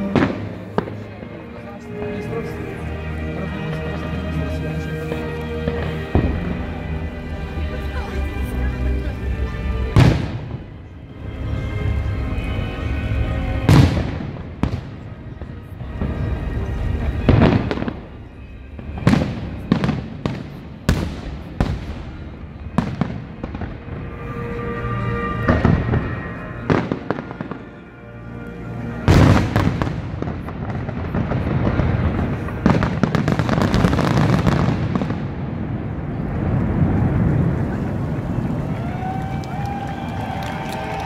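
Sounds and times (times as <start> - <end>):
dense firework crackling: 0.0 - 9.1, 9.9 - 27.8, 29.0 - 41.0
music playing: 0.0 - 41.0.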